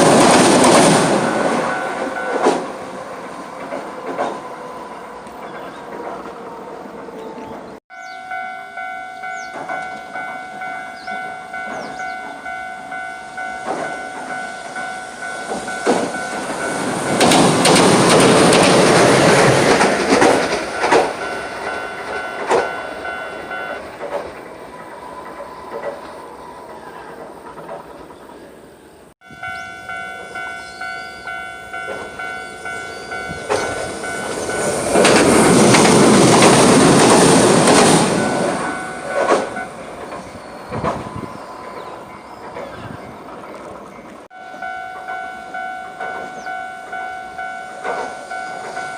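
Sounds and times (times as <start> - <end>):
level-crossing warning bell: 0.0 - 5.8, 7.2 - 26.8, 29.2 - 43.0, 44.2 - 48.9
tram wheels clattering on rails: 0.0 - 28.6, 29.3 - 48.9.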